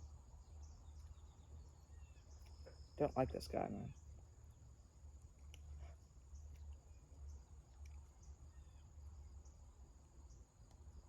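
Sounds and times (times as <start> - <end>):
insect trill: 0.0 - 11.0.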